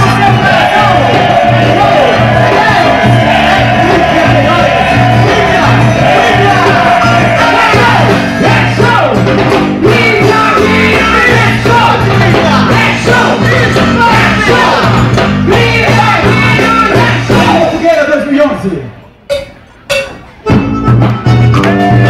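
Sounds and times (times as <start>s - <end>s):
loud band music: 0.0s - 22.0s.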